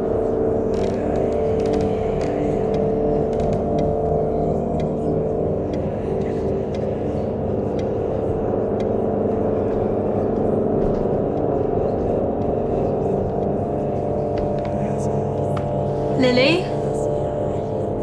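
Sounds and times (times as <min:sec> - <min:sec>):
eerie suspense drone: 0:00.0 - 0:18.0.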